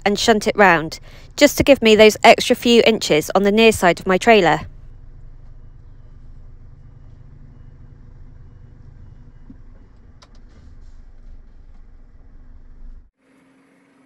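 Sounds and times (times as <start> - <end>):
truck engine running at low revs: 0.0 - 13.1.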